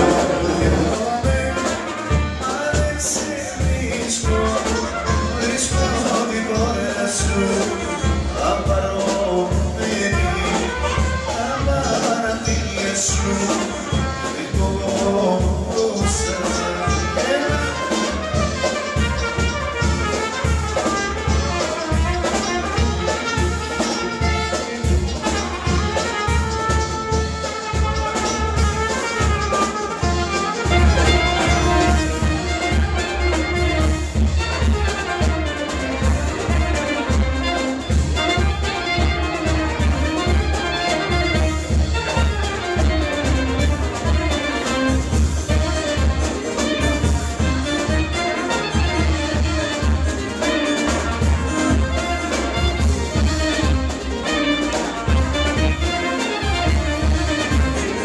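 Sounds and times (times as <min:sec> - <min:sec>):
live dance band music: 0:00.0 - 0:58.0
steady drum beat: 0:00.0 - 0:58.0
trumpet melody: 0:00.0 - 0:58.0.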